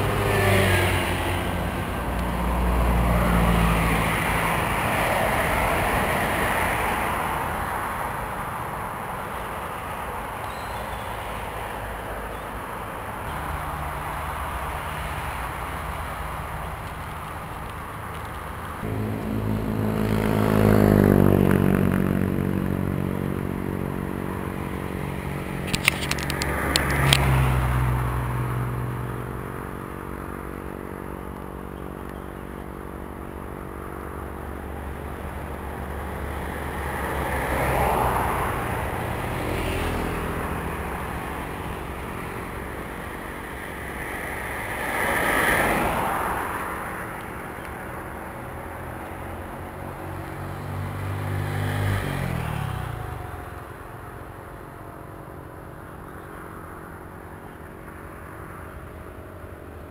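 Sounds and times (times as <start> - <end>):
vehicles passing on road: 0.0 - 59.9.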